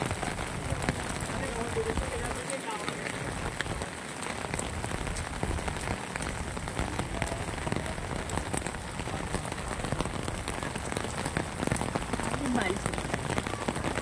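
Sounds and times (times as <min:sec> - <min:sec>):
rain falling on stone and grass: 0:00.0 - 0:14.0.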